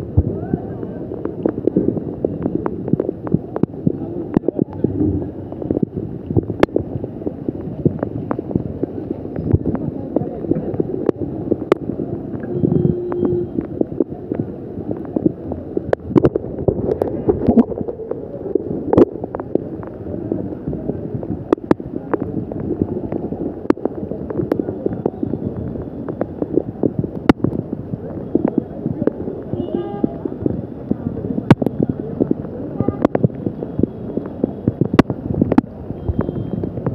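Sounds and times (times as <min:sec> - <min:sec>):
wind on microphone: 0:00.0 - 0:36.9.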